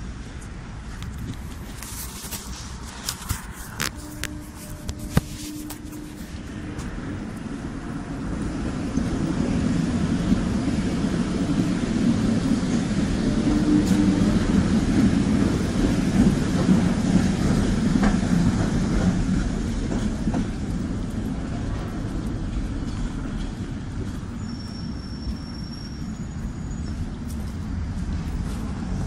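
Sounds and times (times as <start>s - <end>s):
tram rumbling past: 0.0s - 29.0s.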